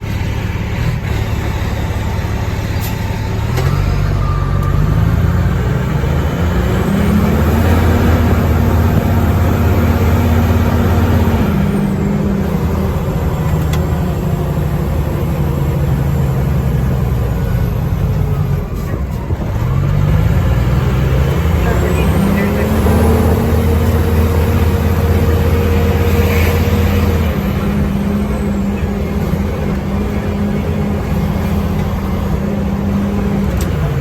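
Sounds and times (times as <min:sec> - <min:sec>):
fire engine diesel engine accelerating: 0:00.0 - 0:34.0
road noise: 0:00.0 - 0:34.0.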